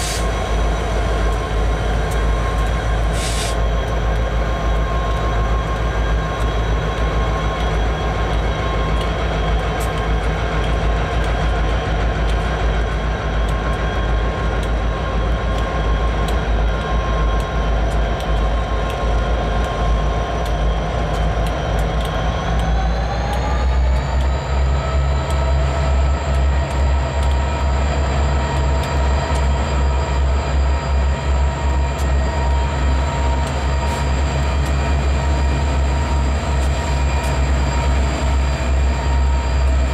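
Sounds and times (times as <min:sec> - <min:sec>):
locomotive engines whining: 0:00.0 - 0:39.9
moving train rumble: 0:00.0 - 0:39.9.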